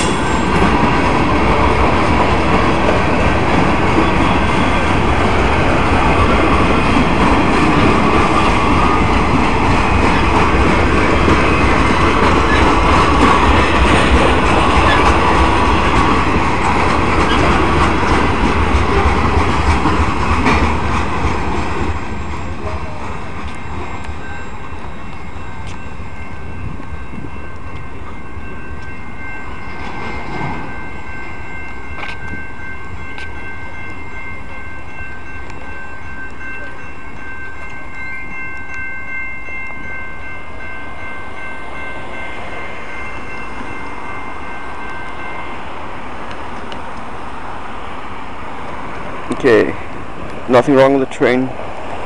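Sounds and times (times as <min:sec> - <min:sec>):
train wheels rumbling and rattling: 0:00.0 - 0:52.0.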